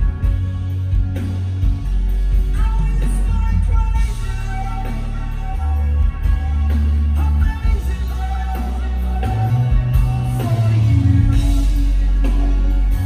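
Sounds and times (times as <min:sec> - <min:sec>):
bass line: 0:00.0 - 0:13.0
live band music: 0:00.0 - 0:13.0
man singing: 0:02.4 - 0:13.0.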